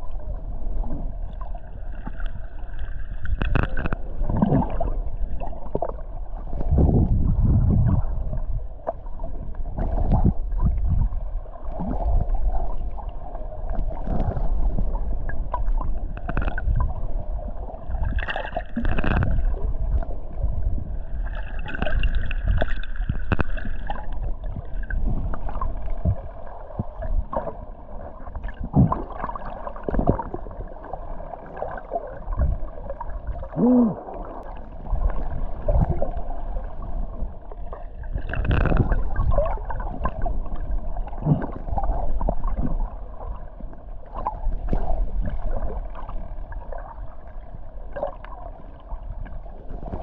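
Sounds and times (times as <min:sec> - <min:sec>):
steady low rumble: 0:00.0 - 0:49.7
water gurgling and sloshing: 0:00.0 - 0:50.0.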